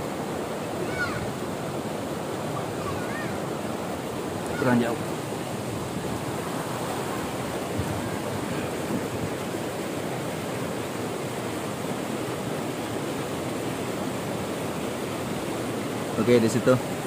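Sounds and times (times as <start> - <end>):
water rushing through a channel: 0.0 - 17.0.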